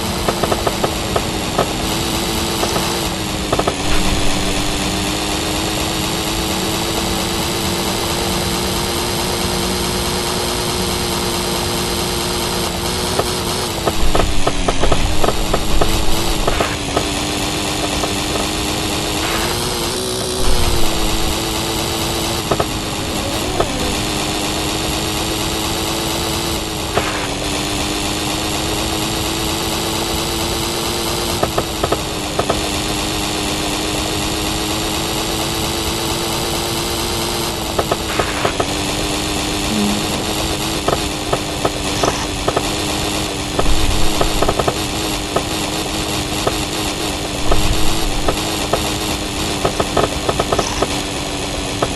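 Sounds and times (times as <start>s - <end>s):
moped engine at high revs: 0.0s - 51.9s.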